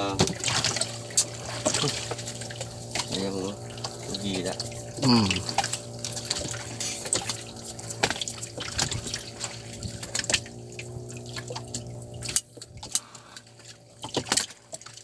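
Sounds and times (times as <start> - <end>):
boat engine idling: 0.0 - 15.0
water slapping against hull: 0.0 - 15.0.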